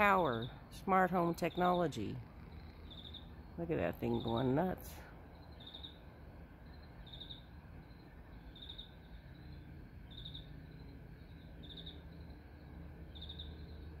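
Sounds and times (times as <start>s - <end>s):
cricket chirping: 0.0s - 14.0s
steady low hum: 0.0s - 14.0s.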